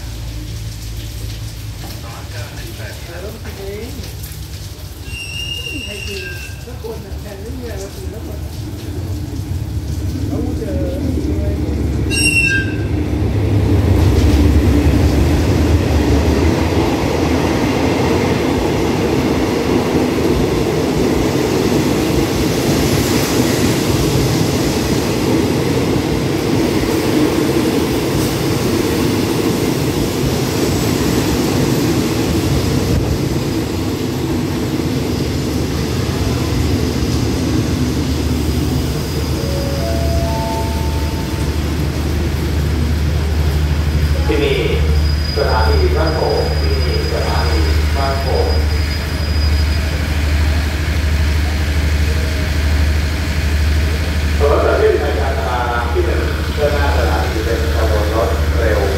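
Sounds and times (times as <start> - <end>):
locomotive engine rumbling: 0.0 - 58.9
train coaches rolling: 0.0 - 58.9.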